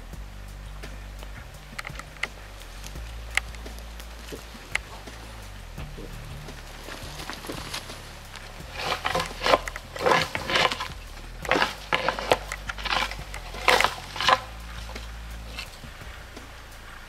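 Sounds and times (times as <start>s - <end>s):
footsteps crunching through twigs: 1.2s - 17.0s.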